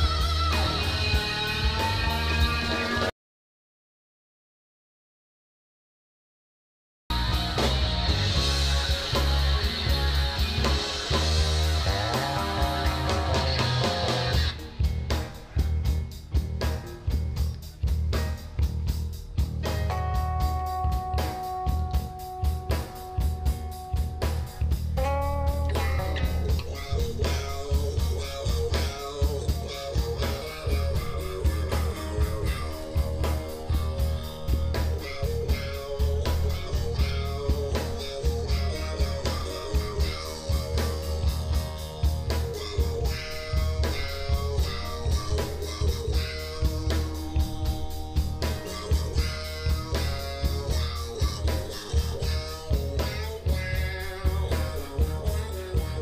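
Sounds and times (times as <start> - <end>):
bass guitar: 0.0 - 3.1, 7.1 - 56.0
drum kit beat: 0.0 - 3.1, 7.1 - 56.0
electric guitar: 0.0 - 3.1, 7.1 - 56.0.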